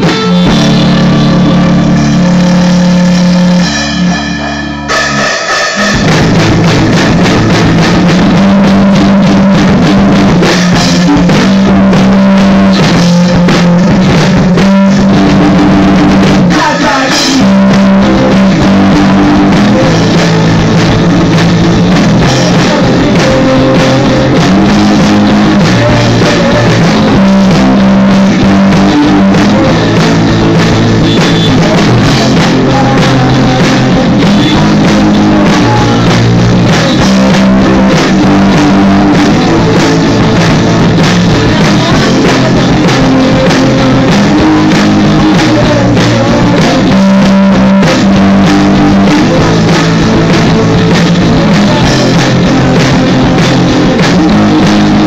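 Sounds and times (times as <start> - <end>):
person singing into a microphone: 0.0 - 4.5, 5.8 - 55.0
drums: 0.0 - 55.0
electric guitar: 0.0 - 55.0.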